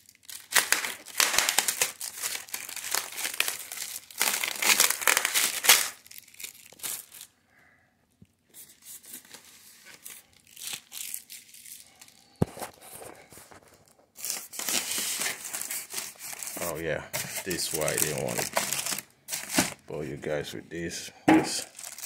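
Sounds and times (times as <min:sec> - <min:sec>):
plastic bags crinkling: 0:00.0 - 0:07.4, 0:08.8 - 0:20.4, 0:21.5 - 0:22.0.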